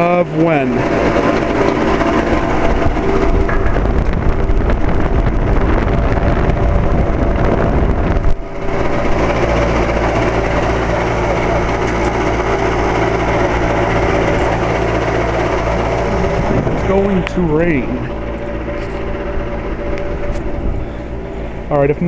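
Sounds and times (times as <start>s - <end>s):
air conditioner hum: 0.0s - 22.0s
rough rattly mechanical noise: 0.0s - 22.0s.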